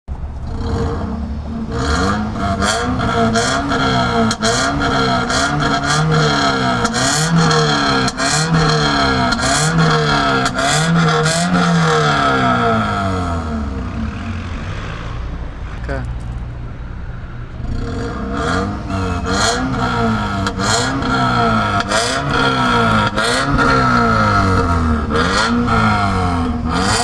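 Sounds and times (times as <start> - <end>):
car engine revving in blips: 0.1 - 16.5, 17.6 - 27.0.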